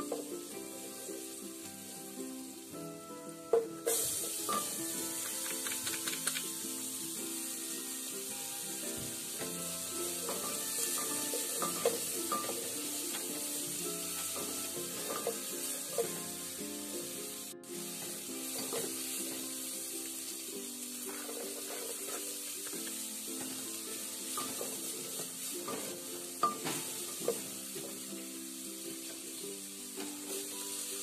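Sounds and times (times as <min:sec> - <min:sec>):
onion sizzling in butter: 0:00.0 - 0:31.0
soft background music: 0:00.0 - 0:31.0.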